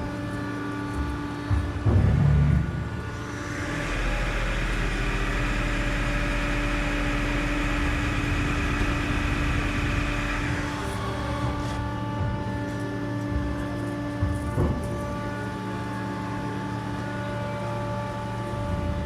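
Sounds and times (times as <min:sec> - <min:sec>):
lathe machine hum: 0:00.0 - 0:19.0.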